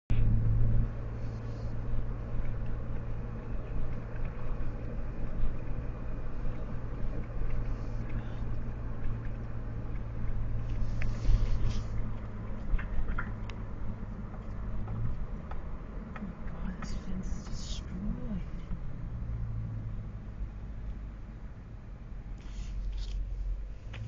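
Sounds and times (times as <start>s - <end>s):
car engine low rumble: 0.1s - 24.0s.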